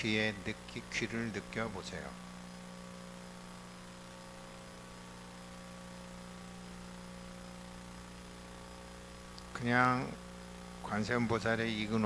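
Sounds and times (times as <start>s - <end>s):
electrical hum of sound system: 0.0s - 12.0s
faint hiss: 0.0s - 12.0s.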